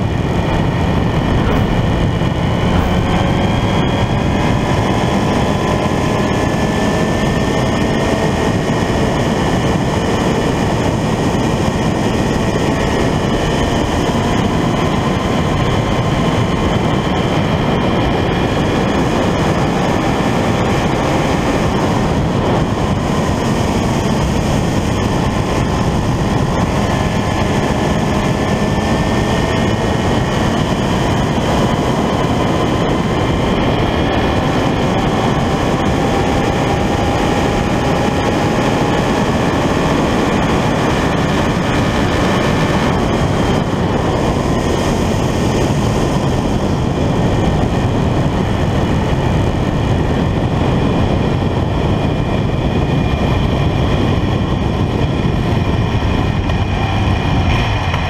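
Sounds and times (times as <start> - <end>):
motorcycle engine at high speed: 0.0 - 58.0
wind rush on microphone: 0.0 - 58.0.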